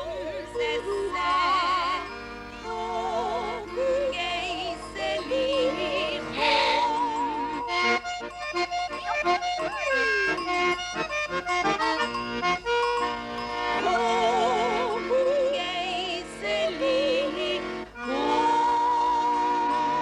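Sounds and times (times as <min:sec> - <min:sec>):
folk accordion music: 0:00.0 - 0:20.0.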